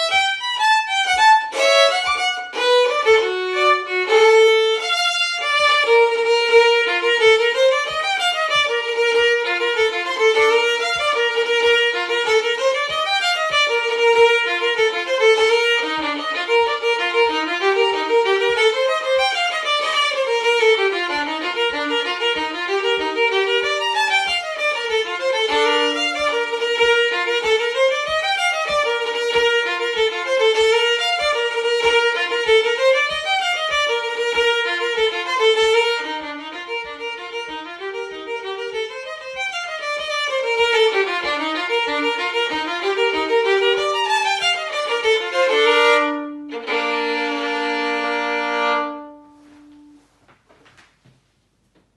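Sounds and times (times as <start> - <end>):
solo fiddle playing fast tune: 0.0 - 50.0
low foot tapping beat: 0.0 - 51.9.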